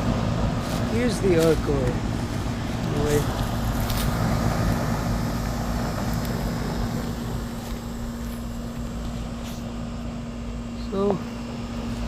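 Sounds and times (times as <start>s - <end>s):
fan whooshing: 0.0s - 12.0s
heat pump humming: 0.0s - 12.0s.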